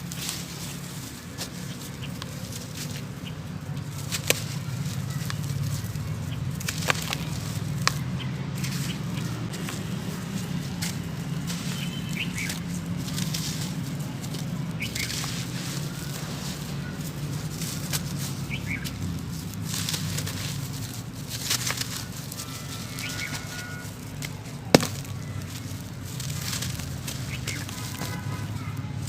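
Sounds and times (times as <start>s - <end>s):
cement chunks crumbling: 4.0s - 29.0s.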